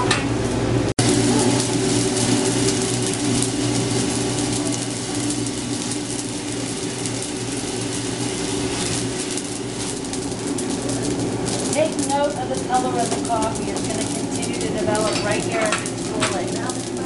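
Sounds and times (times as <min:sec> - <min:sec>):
coffee roaster motor and fan hum: 0:00.0 - 0:17.0
roasted beans rattling and crackling: 0:01.0 - 0:17.0.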